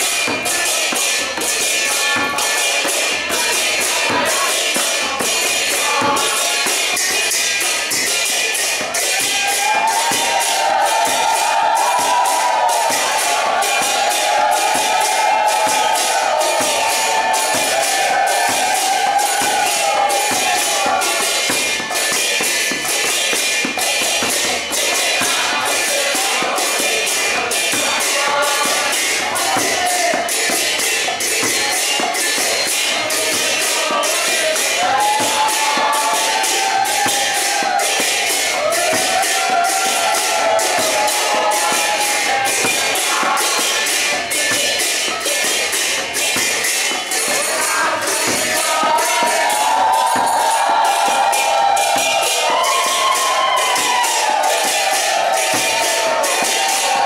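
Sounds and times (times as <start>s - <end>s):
crowd chanting: 0.0s - 57.0s
drum: 0.0s - 57.0s
hand cymbals beating: 0.0s - 57.0s.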